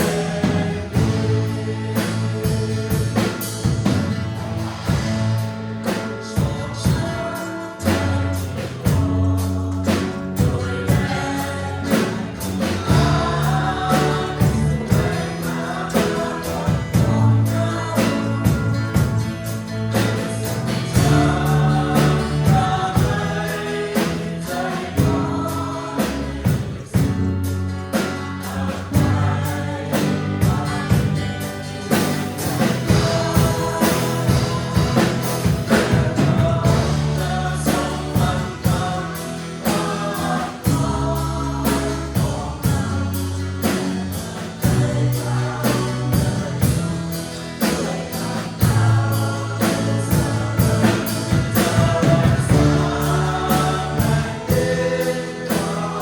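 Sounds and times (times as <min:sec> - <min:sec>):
group of voices singing: 0:00.0 - 0:56.0
worship band playing gospel: 0:00.0 - 0:56.0.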